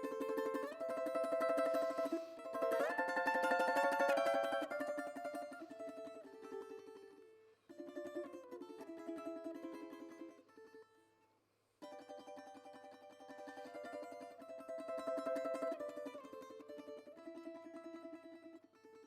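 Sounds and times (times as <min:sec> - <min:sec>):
plucked string instrument music: 0:00.0 - 0:11.0, 0:11.8 - 0:19.0.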